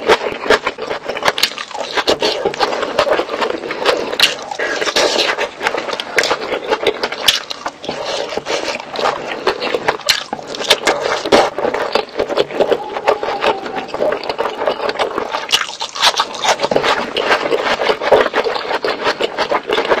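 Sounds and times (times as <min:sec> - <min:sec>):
clicks and crackles of chewing: 0:00.0 - 0:20.0
lip smacks: 0:00.0 - 0:20.0
person chewing food: 0:00.0 - 0:20.0.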